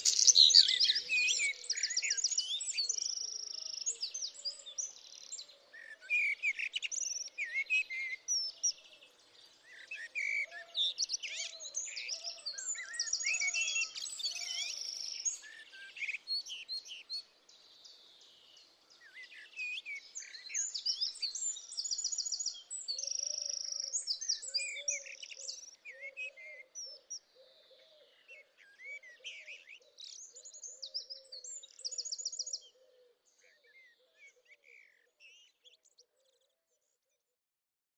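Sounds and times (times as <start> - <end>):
songbirds chirping and trilling: 0.0 - 37.2.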